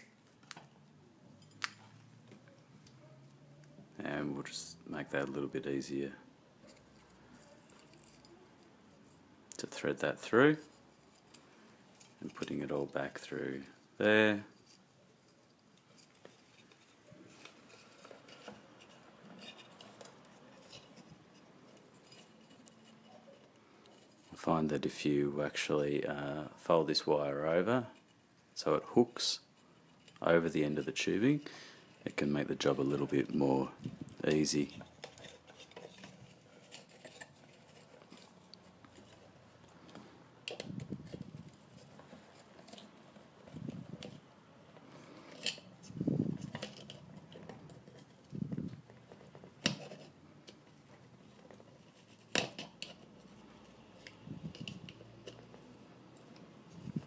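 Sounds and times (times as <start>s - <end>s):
handling rustles and clicks: 6.6s - 24.9s, 29.5s - 57.0s.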